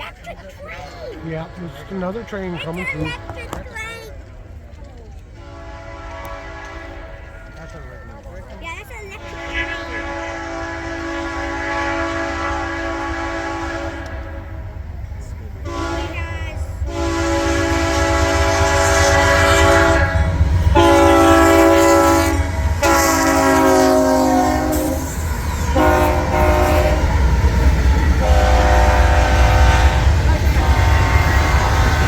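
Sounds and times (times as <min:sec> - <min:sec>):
passing train rumbling: 0:00.0 - 0:32.0
locomotive horn blasts: 0:01.6 - 0:03.6, 0:05.4 - 0:07.4, 0:09.2 - 0:14.6, 0:15.6 - 0:32.0.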